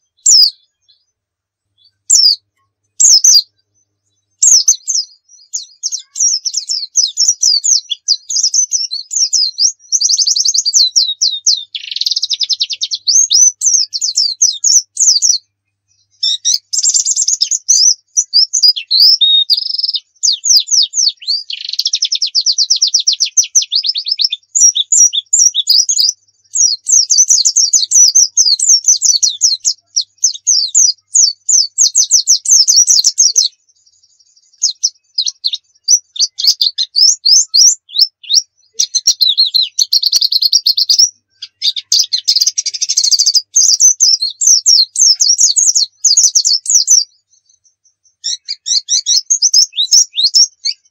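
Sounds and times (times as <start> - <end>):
bird singing rapid twittering song: 0.0 - 50.9.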